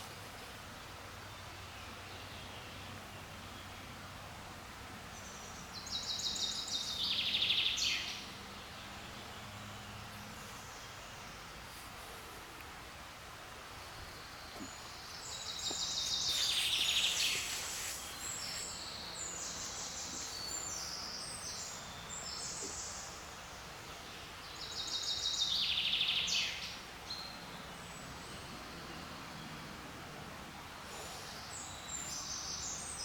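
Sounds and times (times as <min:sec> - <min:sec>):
songbirds singing: 0:00.0 - 0:12.2, 0:13.1 - 0:33.0
background hiss: 0:00.0 - 0:33.0.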